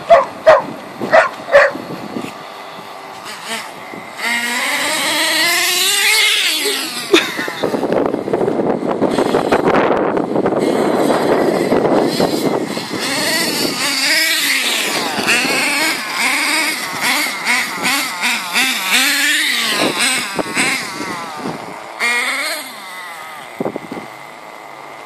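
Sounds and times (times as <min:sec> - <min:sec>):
nitro engine revving: 0:00.0 - 0:25.0.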